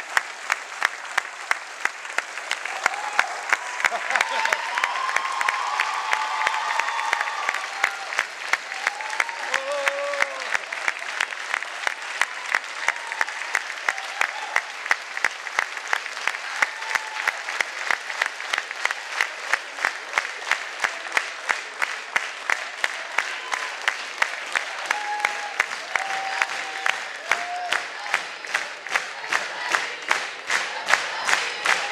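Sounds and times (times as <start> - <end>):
audience applause: 0.0 - 31.9
sharp rhythmic claps: 0.0 - 31.9.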